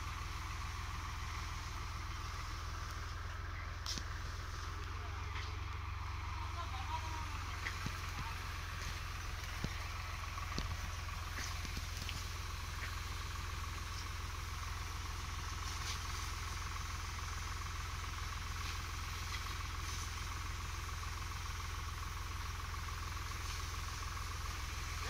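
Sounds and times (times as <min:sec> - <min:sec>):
faint steady pump whine: 0:00.0 - 0:25.0
tractor diesel engine droning: 0:00.0 - 0:25.0.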